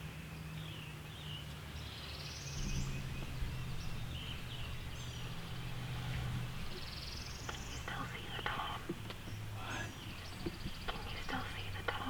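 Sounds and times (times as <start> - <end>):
low background rumble: 0.0 - 12.0
songbirds chirping: 0.0 - 12.0.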